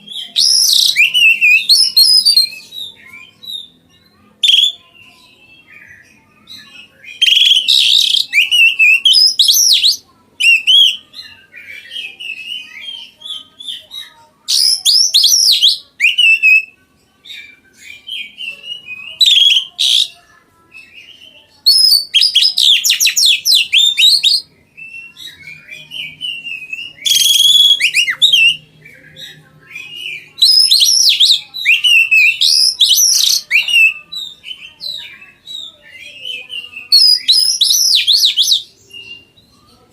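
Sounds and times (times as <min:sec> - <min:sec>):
bird singing loud phrases: 0:00.0 - 0:39.9.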